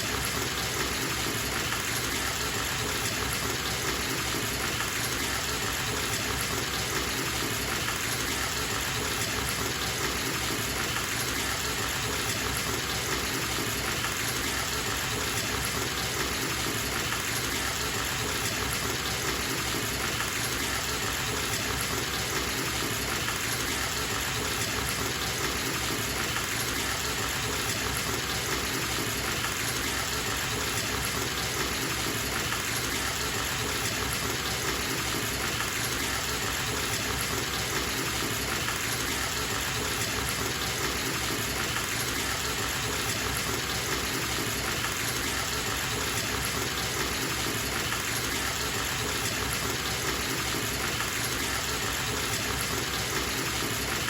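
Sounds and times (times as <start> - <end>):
tap water gushing into tub: 0.0 - 54.0.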